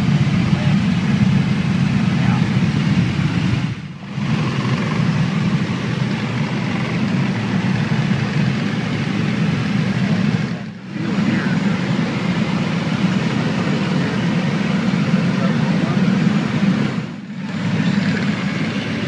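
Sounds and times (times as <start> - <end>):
light aircraft cabin rumble: 0.0 - 19.0.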